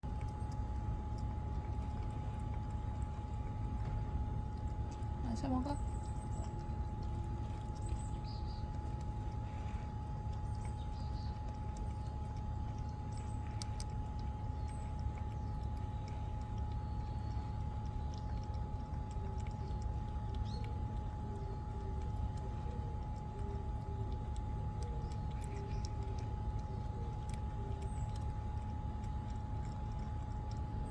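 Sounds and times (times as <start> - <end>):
constant hum tone: 0.0 - 30.9
faint ticks and chirps: 0.0 - 30.9.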